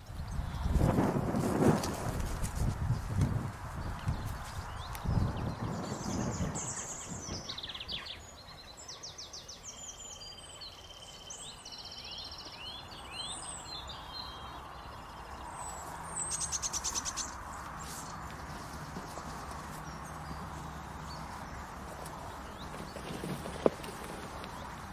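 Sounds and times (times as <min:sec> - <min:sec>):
small birds chirping and trilling: 0:00.0 - 0:01.1, 0:02.7 - 0:24.9.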